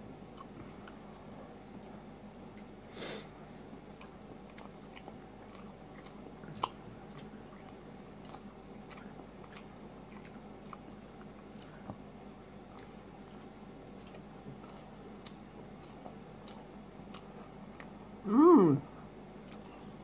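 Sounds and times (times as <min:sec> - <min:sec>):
person chewing food: 0:00.2 - 0:18.2, 0:19.0 - 0:20.0.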